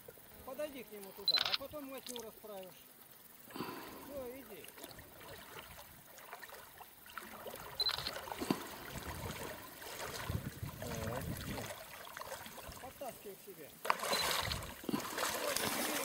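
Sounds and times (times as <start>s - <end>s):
water sloshing and splashing: 1.1s - 2.7s, 3.5s - 16.0s.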